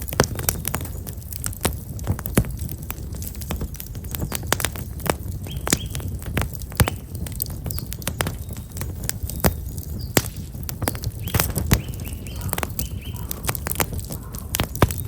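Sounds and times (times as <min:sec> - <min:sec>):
small birds chirping: 0:00.0 - 0:02.0, 0:03.0 - 0:15.0
campfire crackling and popping: 0:00.0 - 0:15.0
low rumble of flames: 0:00.0 - 0:15.0.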